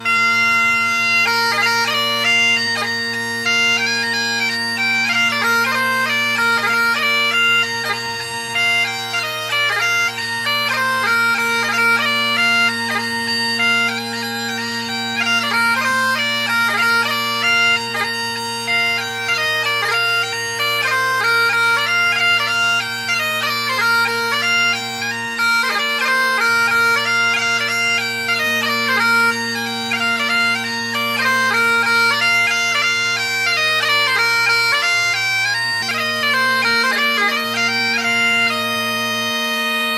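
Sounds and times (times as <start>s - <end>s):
bagpipes playing: 0.0s - 39.9s.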